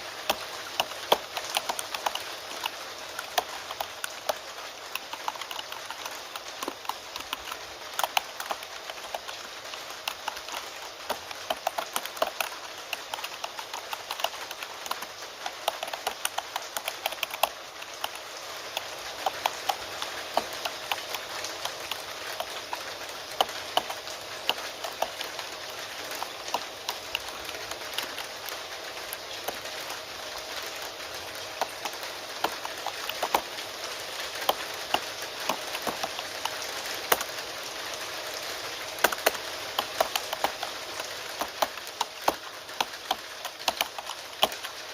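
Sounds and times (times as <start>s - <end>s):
computer keyboard typing: 0.0s - 44.9s
rain hiss: 0.0s - 44.9s.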